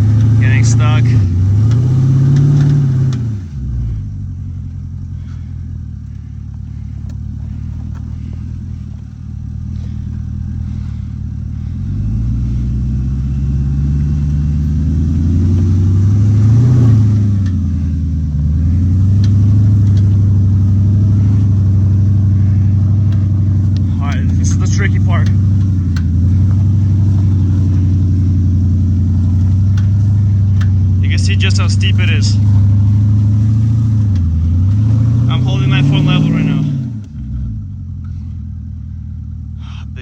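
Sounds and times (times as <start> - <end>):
suv engine revving: 0.0 - 40.0.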